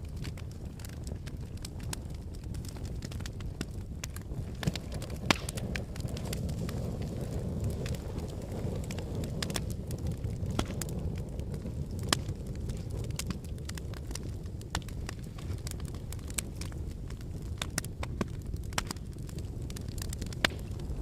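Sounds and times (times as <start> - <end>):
fire flames rumbling: 0.0 - 21.0
logs crackling and popping: 0.0 - 21.0.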